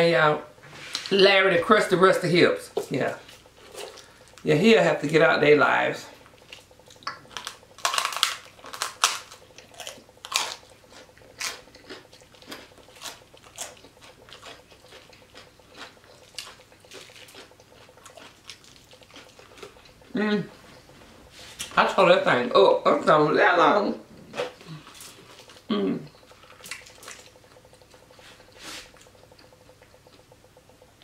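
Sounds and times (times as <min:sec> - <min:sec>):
chewing crunchy pork skin: 0:02.7 - 0:22.1, 0:24.1 - 0:31.0.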